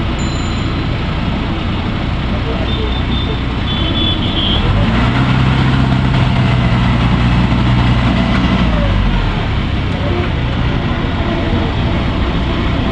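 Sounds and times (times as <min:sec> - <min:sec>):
boat engine humming: 0:00.0 - 0:12.9.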